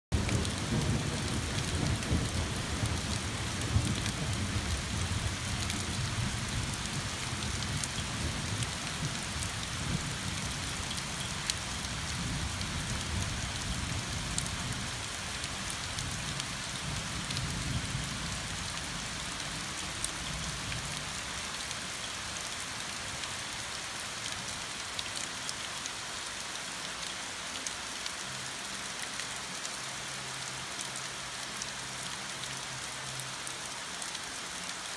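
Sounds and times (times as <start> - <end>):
heavy rain on leaves: 0.1 - 34.9.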